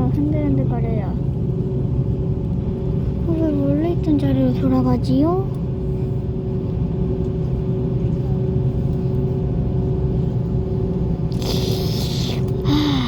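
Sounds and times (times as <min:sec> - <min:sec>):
aircraft engines rumbling: 0:00.0 - 0:13.0.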